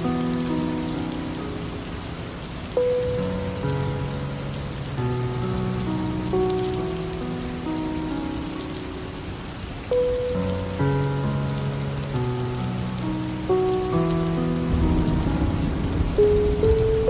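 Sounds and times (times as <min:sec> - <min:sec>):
slow music with held chords: 0:00.0 - 0:17.0
steady rain falling: 0:00.0 - 0:17.0.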